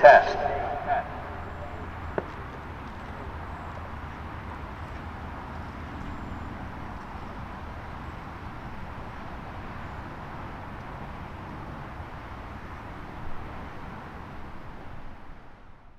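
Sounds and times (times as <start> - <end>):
outdoor background rumble and hiss: 0.0 - 15.9.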